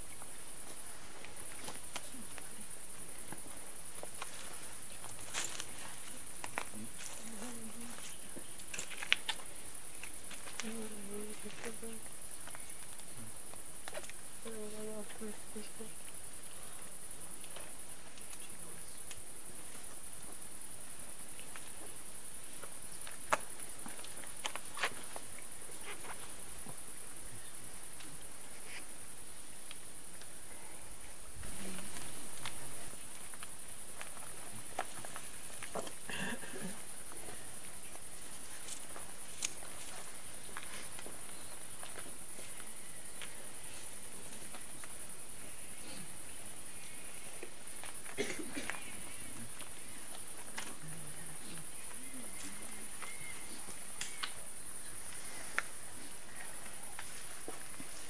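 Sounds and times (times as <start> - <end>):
night insects chirring: 0.0 - 58.0.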